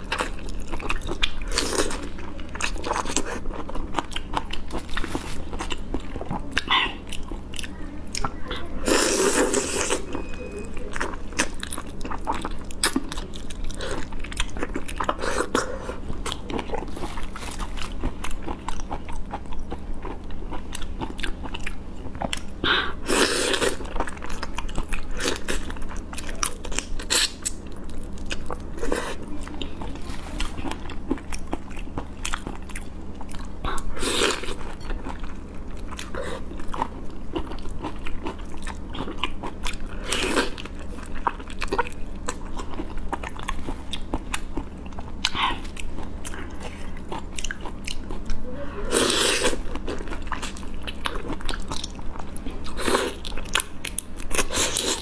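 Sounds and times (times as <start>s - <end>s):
crunching and chewing prawns: 0.0s - 55.0s.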